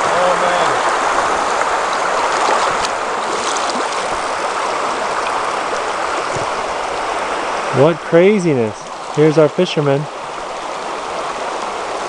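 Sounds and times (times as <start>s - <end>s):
river rushing over gravel: 0.0s - 12.0s.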